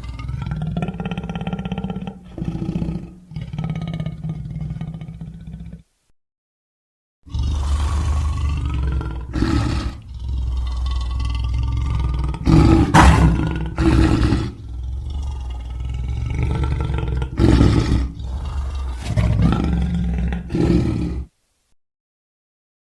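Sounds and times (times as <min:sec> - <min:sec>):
lion growling: 0:00.0 - 0:05.8, 0:07.3 - 0:21.3
lion roaring: 0:00.0 - 0:05.8, 0:07.3 - 0:21.3.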